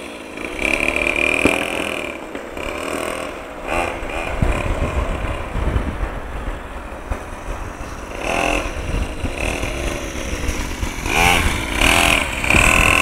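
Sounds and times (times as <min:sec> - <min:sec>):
motocross bike engine revving: 0:00.0 - 0:06.0, 0:07.4 - 0:13.0.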